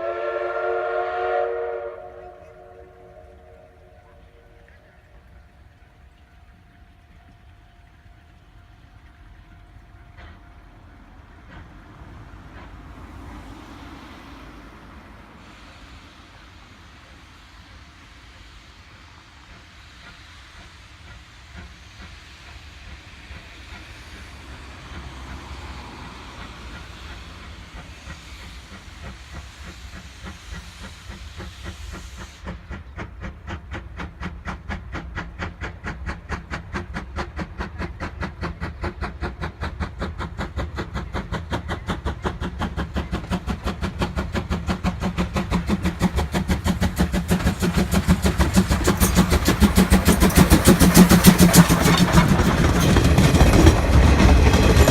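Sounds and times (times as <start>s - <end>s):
steam hiss: 0.0s - 54.9s
steam locomotive exhaust chuffs: 0.0s - 54.9s.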